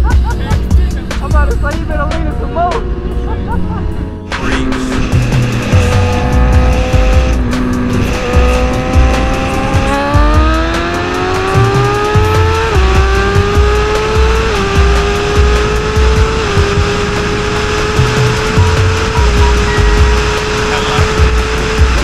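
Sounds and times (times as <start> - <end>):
hip-hop beat with heavy bass: 0.0 - 16.6, 18.0 - 22.0
motorcycle engine revving: 0.0 - 22.0.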